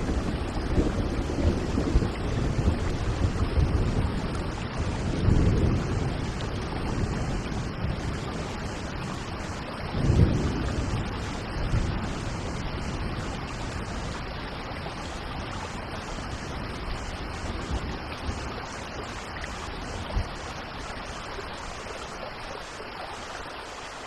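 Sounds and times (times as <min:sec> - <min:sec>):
distant thunder rumbles: 0:00.0 - 0:21.4
steady rain: 0:00.0 - 0:24.0.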